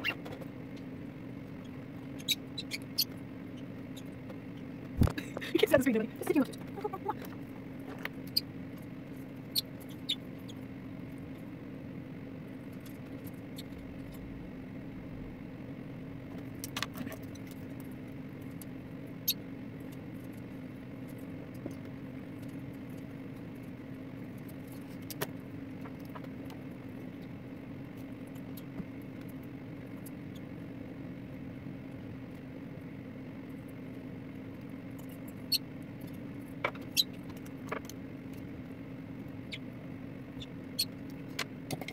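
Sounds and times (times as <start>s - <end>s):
aquarium hum: 0.0s - 41.9s.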